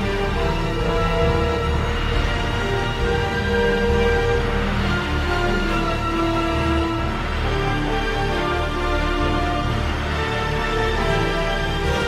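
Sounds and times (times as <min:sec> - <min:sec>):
film score held tones: 0:00.0 - 0:12.0
low bass pulse: 0:00.0 - 0:12.0.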